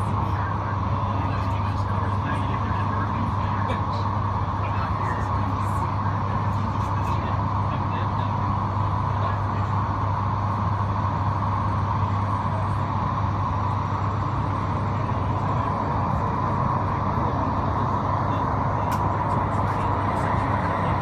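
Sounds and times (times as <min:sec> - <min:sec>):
electric train running inside carriage: 0:00.0 - 0:21.0.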